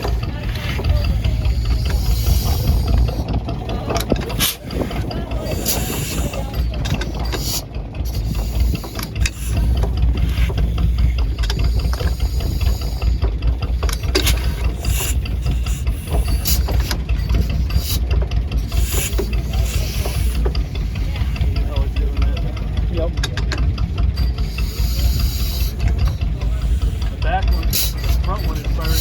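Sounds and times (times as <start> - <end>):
engine low rumble: 0.0 - 29.0
valve gear clatter: 0.0 - 29.0.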